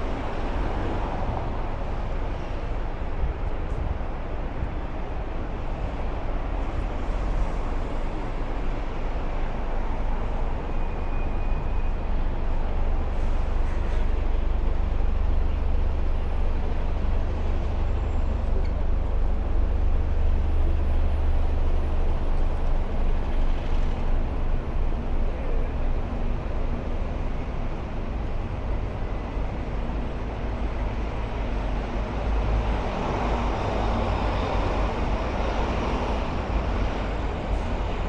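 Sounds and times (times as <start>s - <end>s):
city street traffic: 0.0s - 38.0s
heavy vehicle engine rumble: 0.0s - 38.0s.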